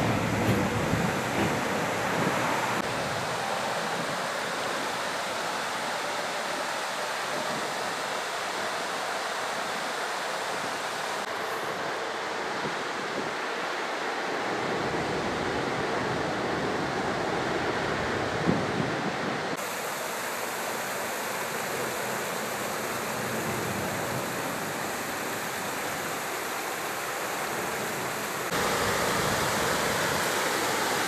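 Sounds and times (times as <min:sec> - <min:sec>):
floodwater roaring: 0:00.0 - 0:31.0.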